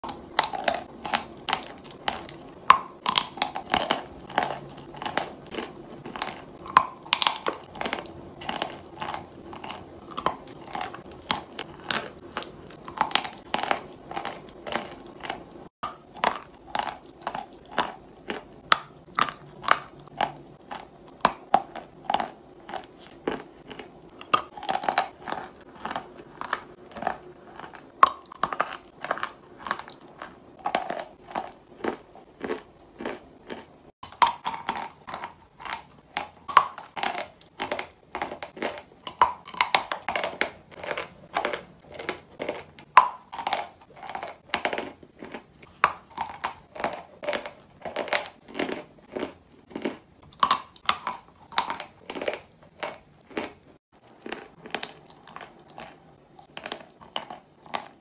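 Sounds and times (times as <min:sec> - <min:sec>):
chalk crunching while chewing: 0:00.0 - 0:58.0.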